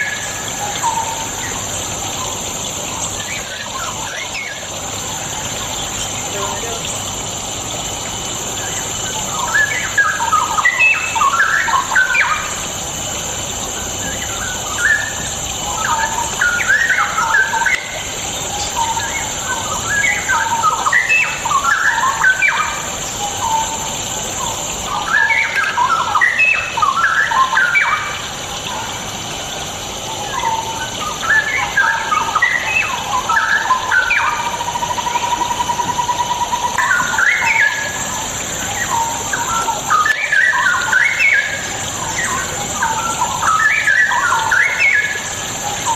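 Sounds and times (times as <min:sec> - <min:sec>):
bird singing warbled phrases: 0:00.0 - 0:45.9
steady hiss: 0:00.0 - 0:45.9.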